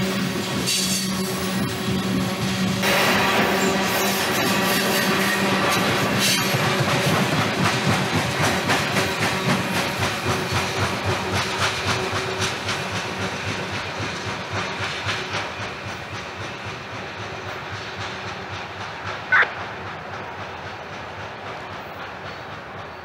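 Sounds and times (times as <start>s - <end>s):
train wheels clicking over rail joints: 0.0s - 23.0s.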